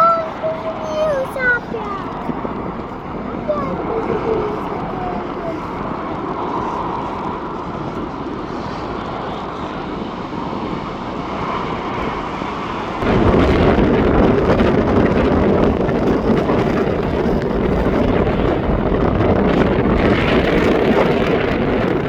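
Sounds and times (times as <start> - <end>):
jet engine rumble: 0.0 - 22.0
wind on microphone: 0.0 - 22.0.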